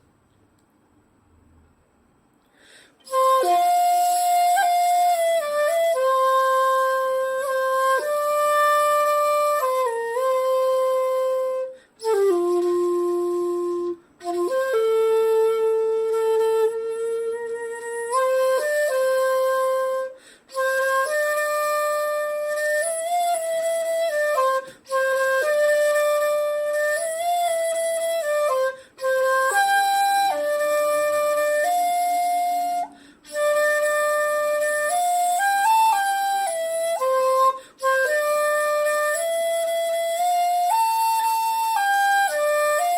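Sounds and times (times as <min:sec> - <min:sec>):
bamboo flute slow melody: 0:02.5 - 0:42.9.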